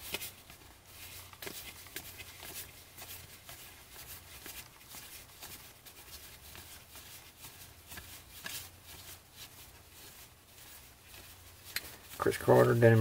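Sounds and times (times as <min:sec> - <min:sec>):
cardboard cards flicking and rustling: 0:00.0 - 0:13.0.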